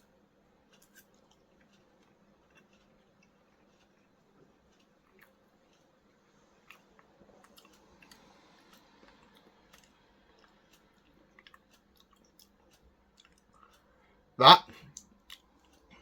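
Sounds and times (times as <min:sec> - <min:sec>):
person chewing: 0:00.0 - 0:16.0.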